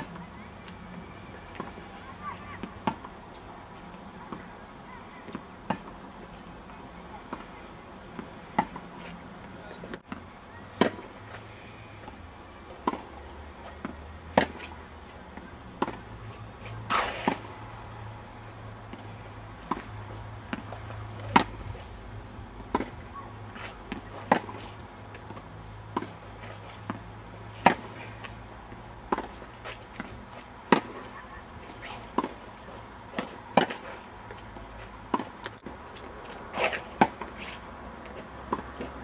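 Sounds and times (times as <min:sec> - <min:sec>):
tennis balls struck with racquets: 0:01.5 - 0:04.5, 0:05.2 - 0:06.2, 0:07.2 - 0:11.4, 0:12.0 - 0:17.7, 0:18.9 - 0:21.9, 0:22.6 - 0:39.0.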